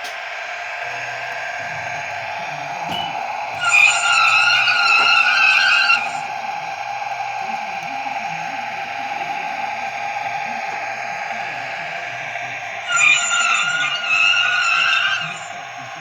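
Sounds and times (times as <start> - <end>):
railcar running hum: 0.0 - 16.0.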